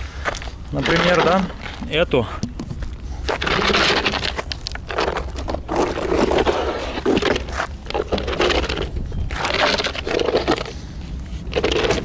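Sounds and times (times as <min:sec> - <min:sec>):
gravel crunching and scraping: 0:00.0 - 0:12.0.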